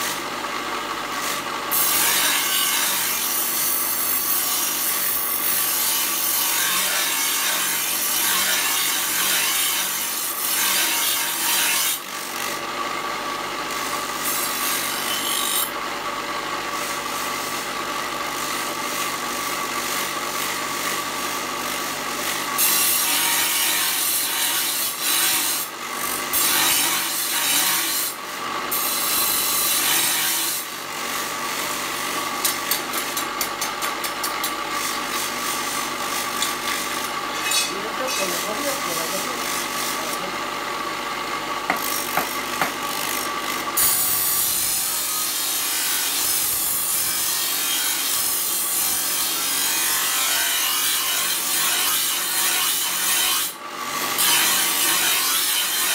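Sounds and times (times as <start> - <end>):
grinder grinding steel: 0.0 - 55.9.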